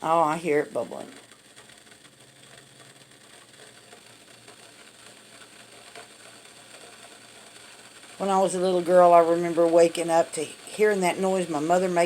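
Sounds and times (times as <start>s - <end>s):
water heating in a kettle: 0.0s - 12.0s.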